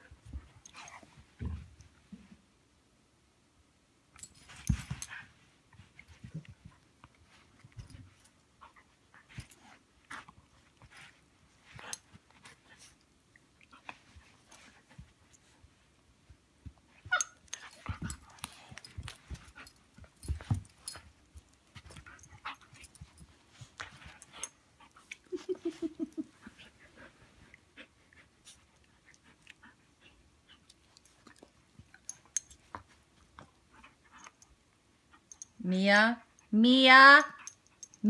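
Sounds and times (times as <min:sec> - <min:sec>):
dogs scuffling and panting: 0:04.2 - 0:35.5.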